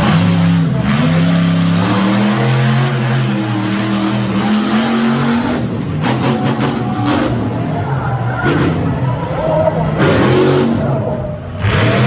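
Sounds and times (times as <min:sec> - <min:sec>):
truck engine revving high: 0:00.0 - 0:12.0.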